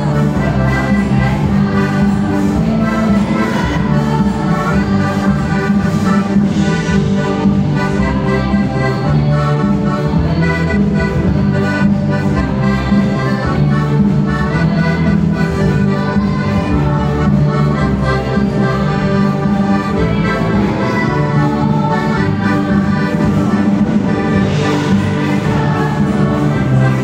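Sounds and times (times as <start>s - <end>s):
accordion folk ensemble playing: 0.0s - 27.0s.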